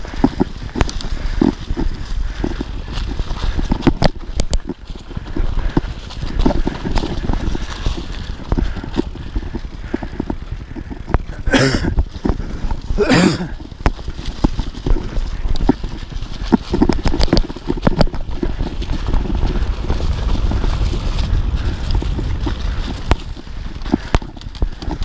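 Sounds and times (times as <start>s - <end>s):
bike clattering over bumps: 0.0s - 25.0s
bike tyres over dry leaves: 0.0s - 25.0s
wind rumble on microphone: 0.0s - 25.0s.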